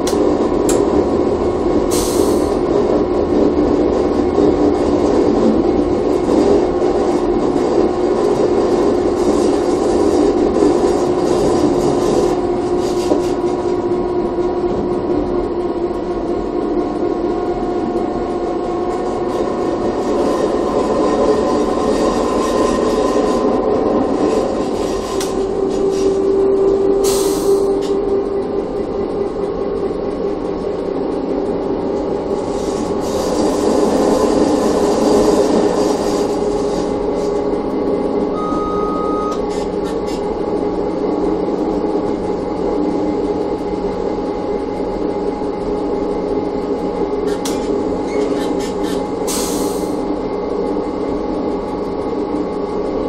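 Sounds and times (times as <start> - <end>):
electric railcar whine: 0.0 - 53.0
wheels rumbling on rail: 0.0 - 53.0.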